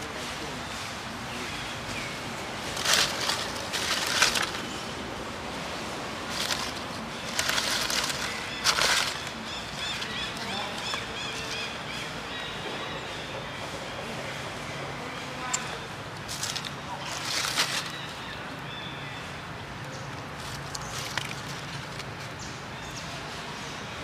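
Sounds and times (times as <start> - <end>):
dry leaves crackling and rustling: 0.0 - 23.8.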